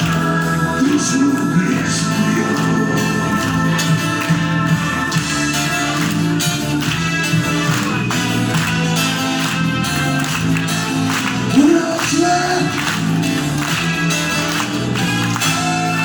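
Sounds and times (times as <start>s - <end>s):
instrumental song with steady beat: 0.0s - 16.0s.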